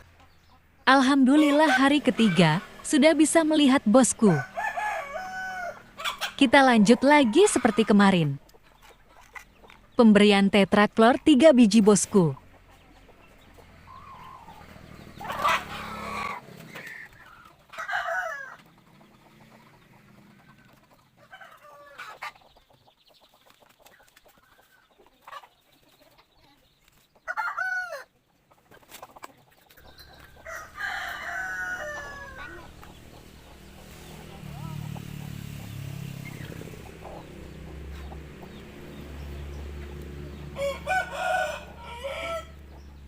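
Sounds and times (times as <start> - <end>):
junglefowl crowing and clucking: 0.0 - 10.0, 11.8 - 43.0.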